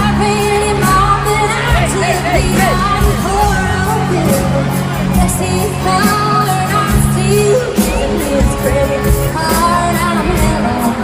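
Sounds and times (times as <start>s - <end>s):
live country band with singing: 0.0s - 11.0s.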